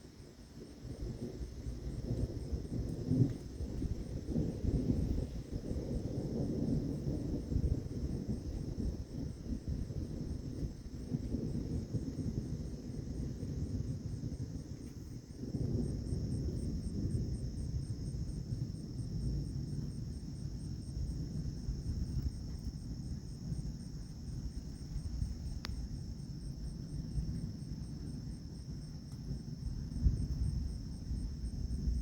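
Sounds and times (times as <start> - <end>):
rhythmic high insect chirp: 0.0 - 32.0
insects buzzing: 0.1 - 32.0.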